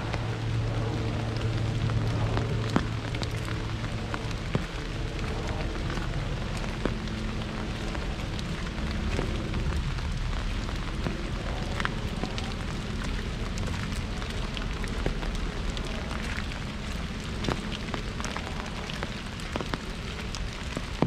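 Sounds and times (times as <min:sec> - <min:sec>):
rain hiss: 0:00.0 - 0:21.0
raindrops ticking on umbrella: 0:00.0 - 0:21.0.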